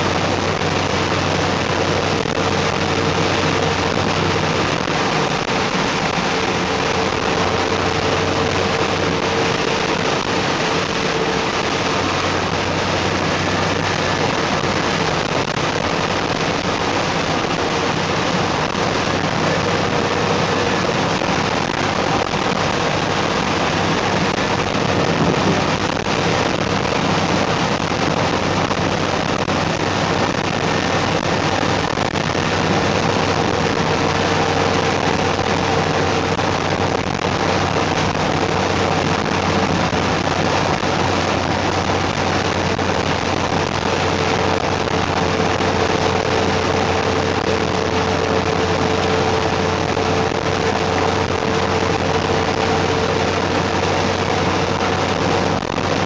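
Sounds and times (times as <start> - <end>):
rain hissing: 0.0 - 56.0.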